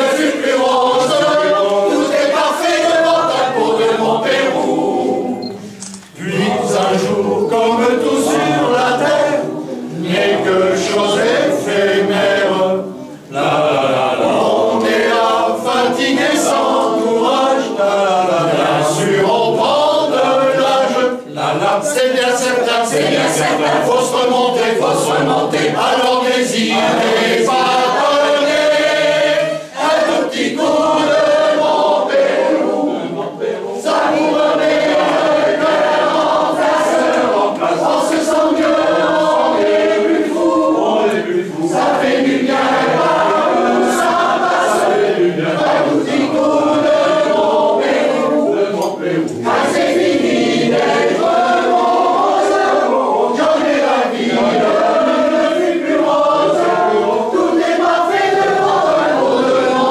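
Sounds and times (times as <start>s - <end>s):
men's choir singing: 0.0s - 59.9s.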